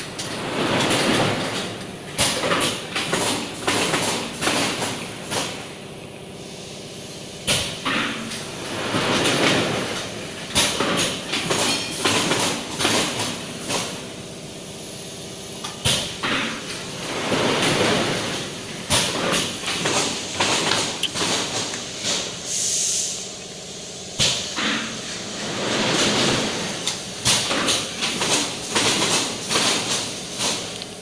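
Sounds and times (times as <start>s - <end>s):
machine clunking: 0.0s - 5.7s, 7.5s - 14.1s, 15.7s - 22.4s, 24.2s - 30.8s
sliding rumbling machine noise: 0.0s - 6.4s, 7.2s - 22.6s, 23.2s - 31.0s.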